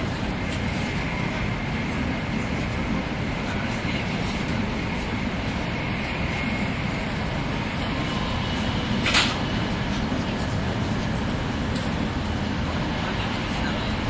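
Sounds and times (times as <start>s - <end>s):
train wheels and air rumbling: 0.0s - 14.0s.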